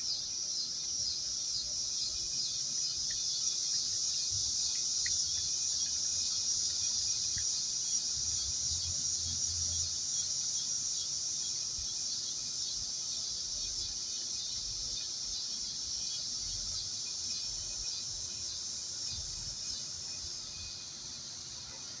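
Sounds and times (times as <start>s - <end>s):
insect chorus chirring: 0.0s - 22.0s.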